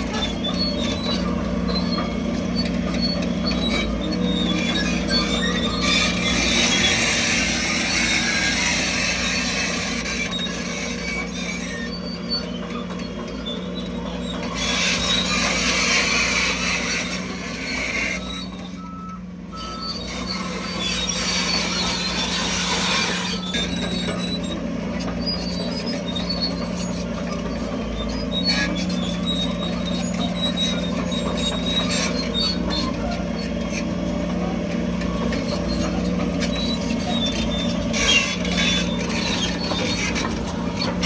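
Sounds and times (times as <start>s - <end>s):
diesel engine humming: 0.0s - 41.0s
short high squeaks: 0.0s - 41.0s.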